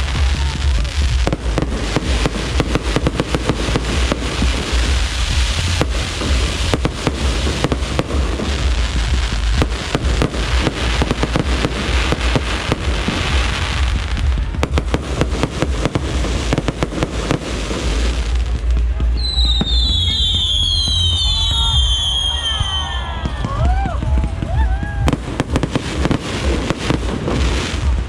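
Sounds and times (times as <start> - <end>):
deep rumble: 0.0 - 28.0
fireworks bangs and crackles: 0.0 - 28.0.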